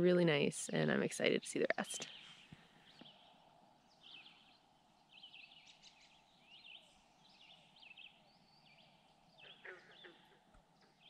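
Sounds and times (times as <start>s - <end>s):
soft steady hiss: 0.0s - 11.0s
bird chirping: 0.8s - 11.0s.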